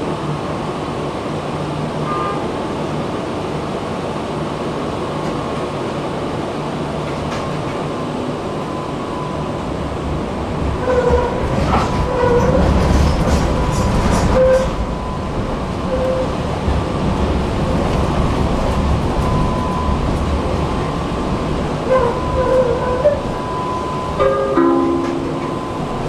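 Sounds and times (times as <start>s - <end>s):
tram rumble: 0.0s - 26.0s.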